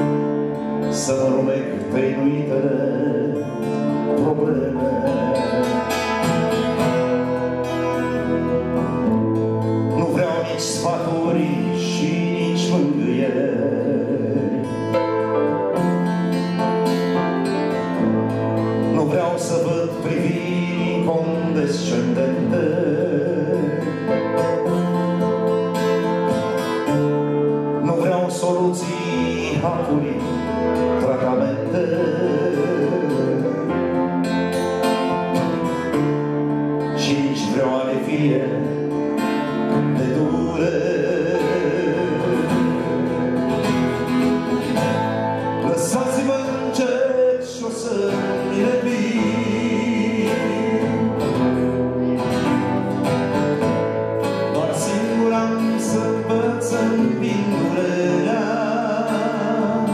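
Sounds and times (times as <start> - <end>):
held keyboard chords: 0.0 - 59.9
man singing: 0.0 - 59.9
strummed acoustic guitar: 0.0 - 59.9.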